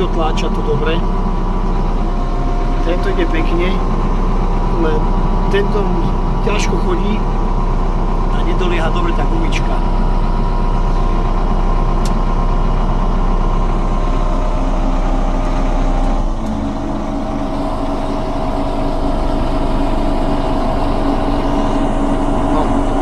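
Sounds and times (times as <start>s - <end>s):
small diesel engine idling: 0.0s - 23.0s.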